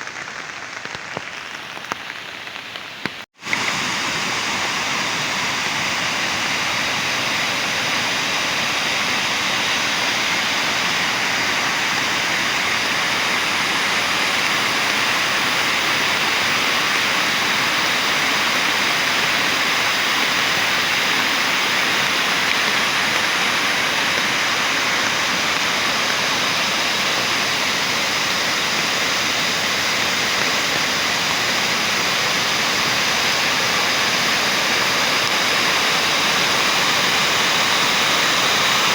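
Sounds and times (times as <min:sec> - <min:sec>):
heavy rain: 0:00.0 - 0:38.9
running water rushing: 0:00.0 - 0:38.9.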